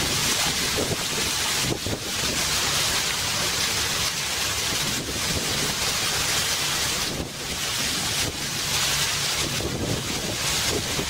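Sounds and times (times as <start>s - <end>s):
wind on microphone: 0.0s - 3.5s, 4.6s - 11.0s
rushing water: 0.0s - 11.0s.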